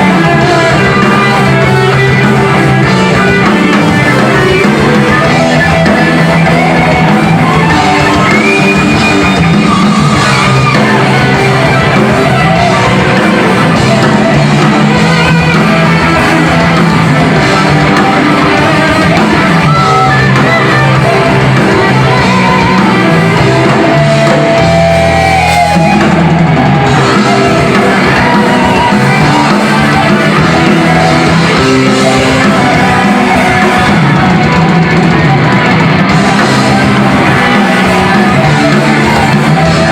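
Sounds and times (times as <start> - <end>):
distorted electric guitars: 0.0 - 39.9
drum kit: 0.0 - 39.9
lead guitar bending notes: 0.0 - 39.9
person shouting singing: 0.0 - 39.9.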